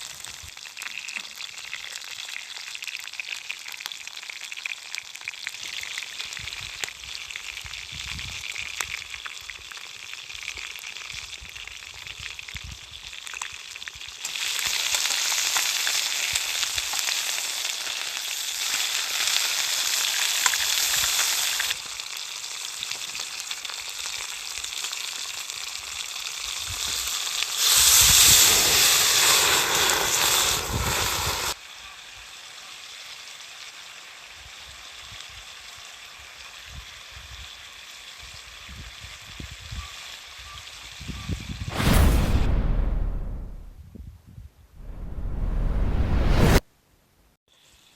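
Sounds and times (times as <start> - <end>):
chicken sizzling in a pan: 0.0 - 41.7, 47.5 - 47.9.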